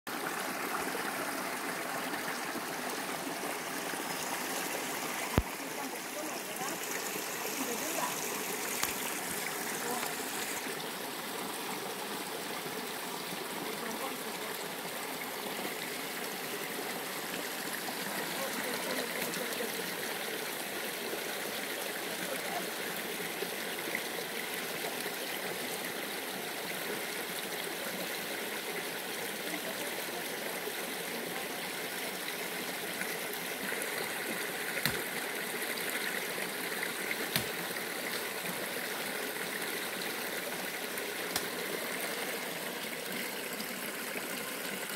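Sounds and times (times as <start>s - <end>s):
stream flowing over rocks: 0.1s - 44.9s.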